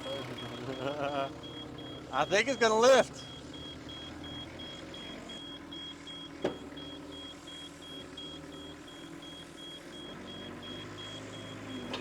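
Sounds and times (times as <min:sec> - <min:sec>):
excavator diesel engine idling: 0:00.0 - 0:12.0
rapid high warning beeps: 0:00.0 - 0:12.0.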